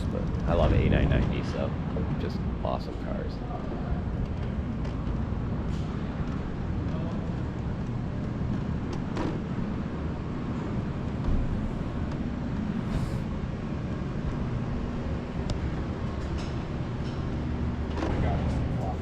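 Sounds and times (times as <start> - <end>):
low room noise rumble: 0.0 - 19.0.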